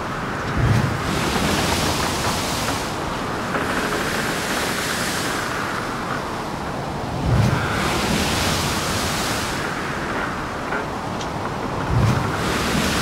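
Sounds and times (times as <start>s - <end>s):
steady rushing surf: 0.0s - 13.0s.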